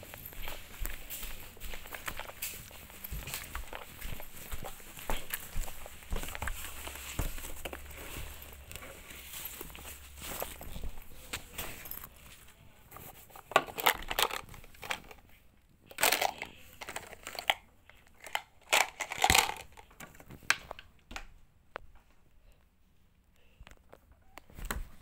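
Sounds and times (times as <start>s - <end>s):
packaging rustling and crinkling: 0.0s - 20.8s.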